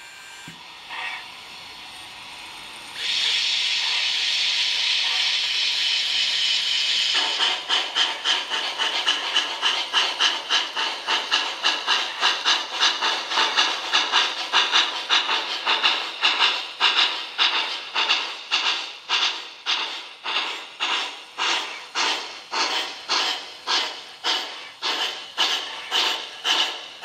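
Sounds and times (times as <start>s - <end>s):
steam hiss: 0.0s - 27.0s
steam locomotive exhaust chuffs: 0.0s - 27.0s.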